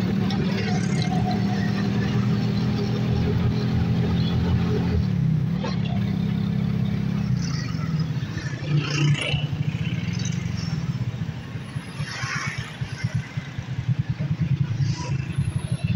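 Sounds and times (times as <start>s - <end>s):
motorcycle engines running: 0.0s - 15.9s
street traffic: 0.0s - 15.9s.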